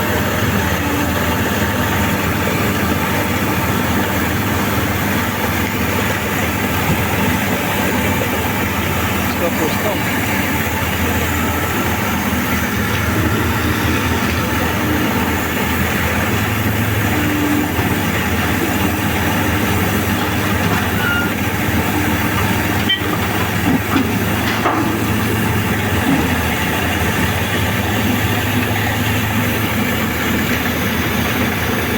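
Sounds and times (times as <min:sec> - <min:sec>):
heavy machinery engine running: 0:00.0 - 0:31.9.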